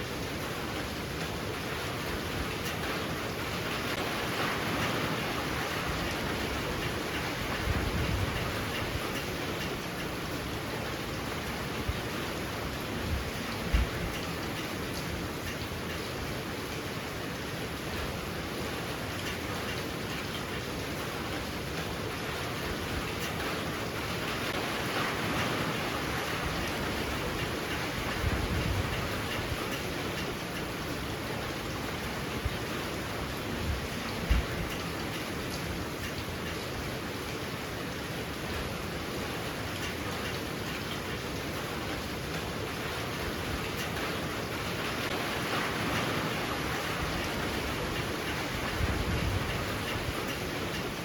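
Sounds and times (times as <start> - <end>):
heavy rain: 0.0 - 51.0
strong wind: 0.0 - 51.0.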